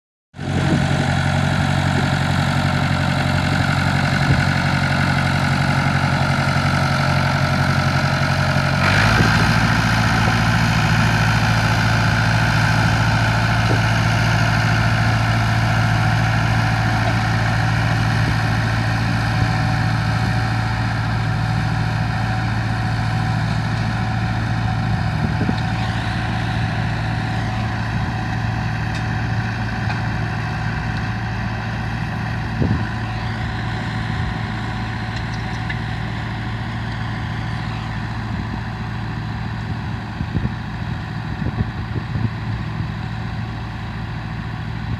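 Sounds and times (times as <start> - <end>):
tractor engine running: 0.4 - 44.9.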